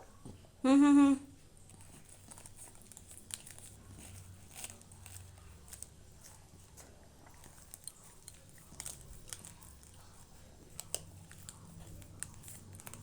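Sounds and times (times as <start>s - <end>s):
puppy crunching ice cream: 1.6s - 13.0s.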